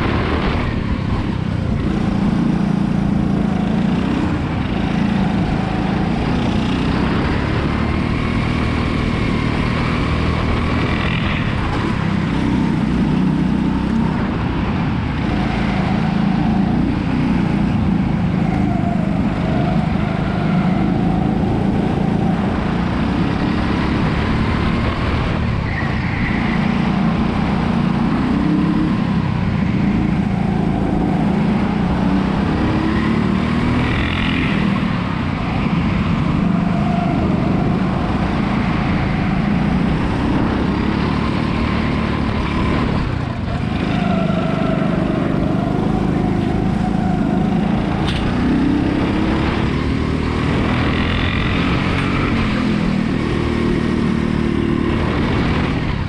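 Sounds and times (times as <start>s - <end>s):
go-kart engine under throttle: 0.0s - 56.0s.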